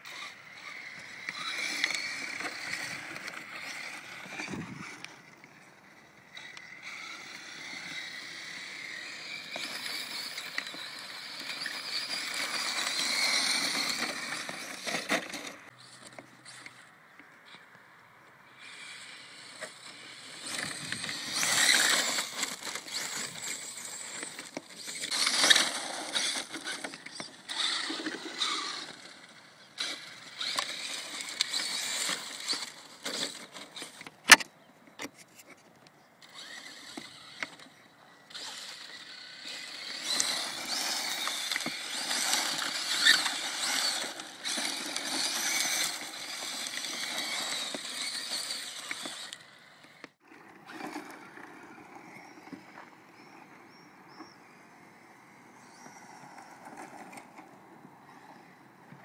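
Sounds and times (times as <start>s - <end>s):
electric motor whining: 0.0s - 16.9s, 18.5s - 34.1s, 36.2s - 53.3s
toy car running over loose dirt: 0.0s - 17.7s, 18.5s - 59.0s.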